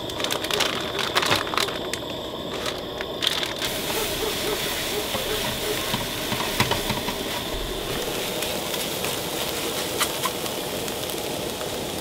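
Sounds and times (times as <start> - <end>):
eggs sizzling in a pan: 1.7 - 12.0.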